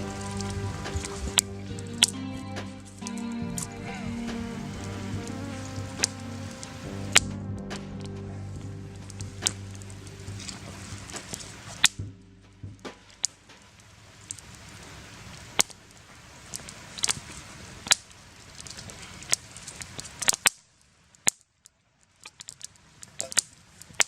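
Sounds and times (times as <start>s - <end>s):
campfire crackling and popping: 0.0s - 20.6s.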